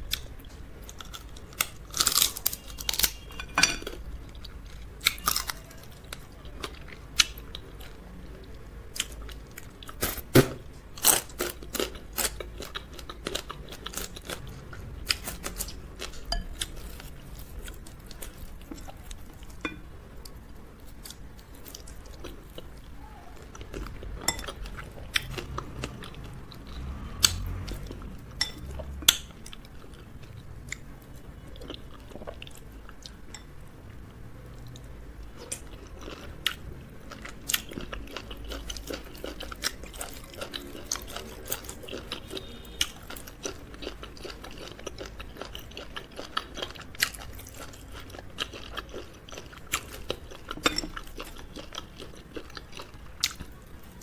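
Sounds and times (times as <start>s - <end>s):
chewing and biting food: 0.0s - 10.3s, 10.9s - 33.2s, 34.5s - 54.0s.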